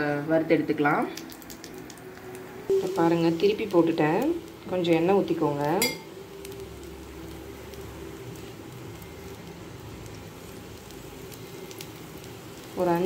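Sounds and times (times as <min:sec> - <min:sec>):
food sizzling in a pan: 0:01.2 - 0:13.0.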